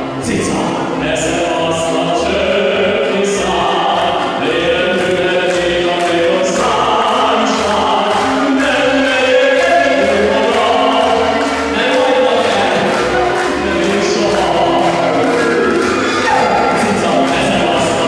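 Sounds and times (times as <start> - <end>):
amplified accompaniment with steady beat: 0.0 - 18.0
man singing into a microphone: 0.2 - 18.0.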